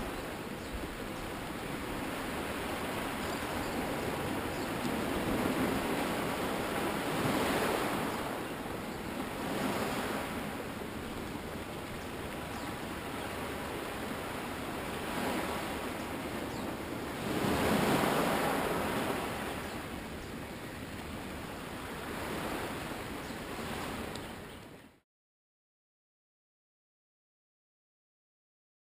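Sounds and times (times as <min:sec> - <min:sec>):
small waves washing onto beach: 0:00.0 - 0:24.8.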